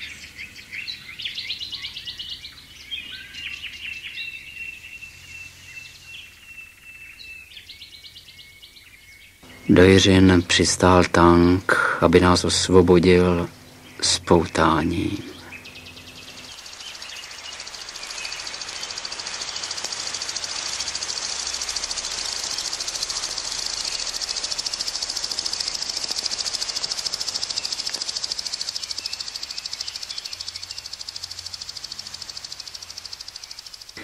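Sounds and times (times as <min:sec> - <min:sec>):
high-pitched pulsing hiss: 0:00.0 - 0:08.4, 0:09.4 - 0:34.0.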